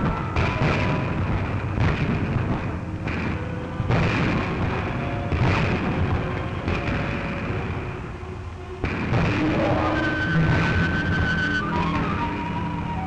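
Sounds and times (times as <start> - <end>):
explosion booms: 0.0 - 7.9, 8.8 - 13.0
music holding long notes: 0.0 - 13.0.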